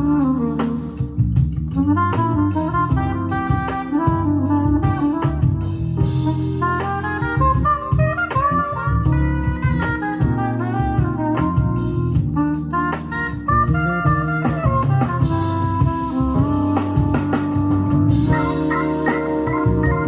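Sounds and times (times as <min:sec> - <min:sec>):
jazz with saxophone and drums: 0:00.0 - 0:20.0.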